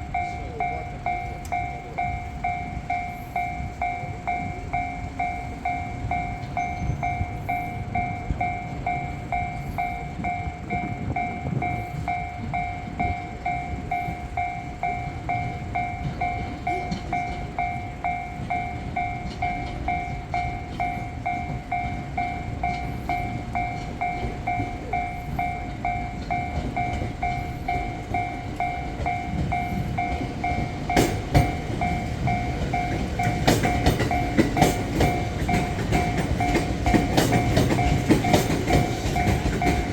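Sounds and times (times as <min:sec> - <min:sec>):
level crossing bell ringing: 0:00.0 - 0:39.9
train rumbling past: 0:00.0 - 0:39.9
train wheel clacks: 0:00.0 - 0:39.9.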